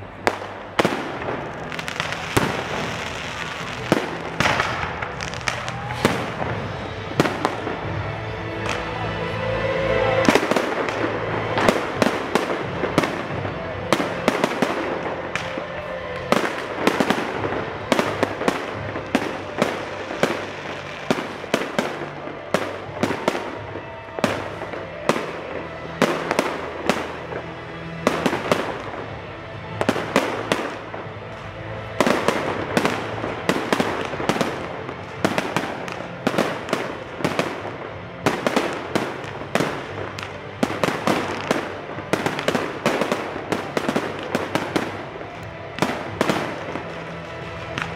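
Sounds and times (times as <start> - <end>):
fireworks banging: 0.0 - 9.0, 10.0 - 47.9
background music: 0.0 - 47.9.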